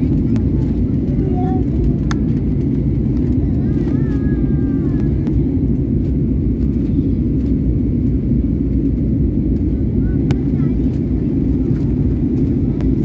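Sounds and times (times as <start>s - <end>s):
jet cabin roar: 0.0s - 13.0s.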